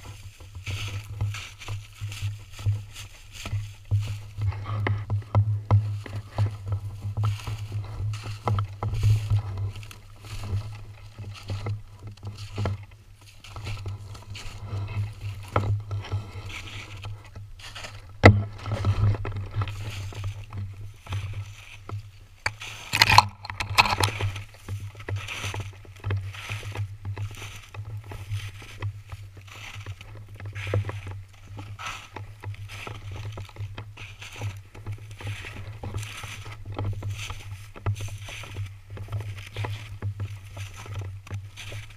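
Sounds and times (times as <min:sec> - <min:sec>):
footsteps crunching through snow: 0:00.0 - 0:41.9.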